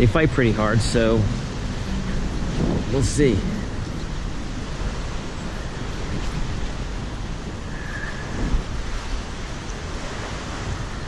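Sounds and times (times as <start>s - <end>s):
low rumble: 0.0s - 10.1s
wind buffeting microphone: 0.0s - 11.0s.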